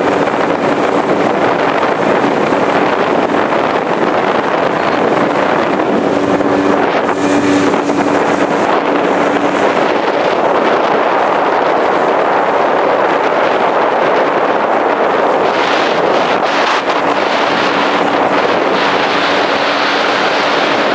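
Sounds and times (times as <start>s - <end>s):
outboard motor droning: 0.0s - 20.9s
water rushing along hull: 0.0s - 20.9s
wind buffeting microphone: 0.0s - 20.9s.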